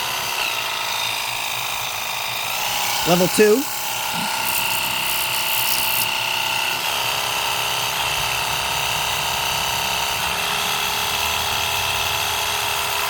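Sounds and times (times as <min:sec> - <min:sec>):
pressure washer pump whine: 0:00.0 - 0:13.0.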